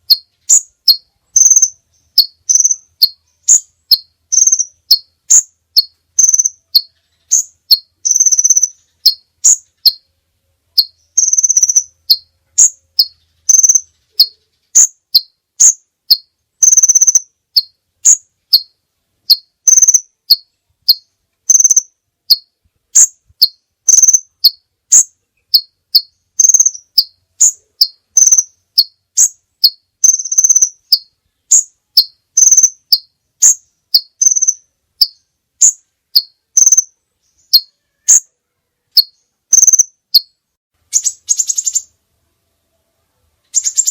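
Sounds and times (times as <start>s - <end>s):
songbird singing sharp chirps: 0.0s - 43.9s.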